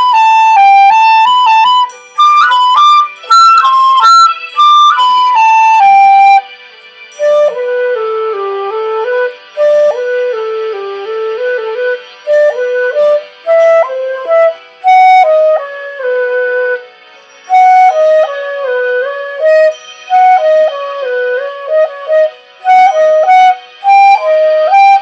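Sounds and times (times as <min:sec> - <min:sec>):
solo flute slow melody: 0:00.0 - 0:25.0.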